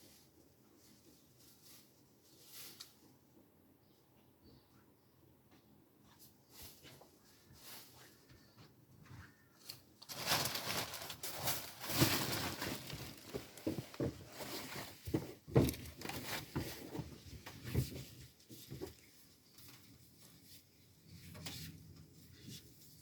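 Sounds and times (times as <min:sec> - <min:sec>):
rustling and crinkling handling: 0:00.0 - 0:03.4, 0:06.1 - 0:23.0.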